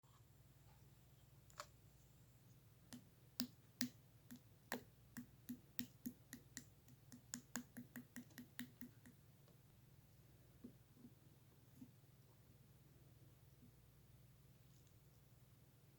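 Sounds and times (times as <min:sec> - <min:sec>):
faint low hum: 0:00.0 - 0:15.9.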